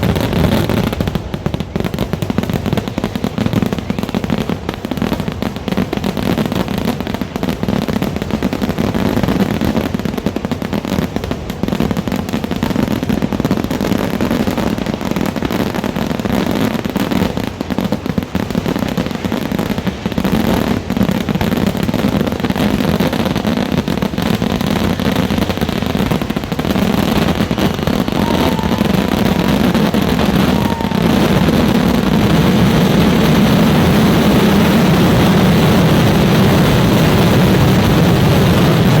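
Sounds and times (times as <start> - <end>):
rapid firecracker bursts: 0.0 - 39.0.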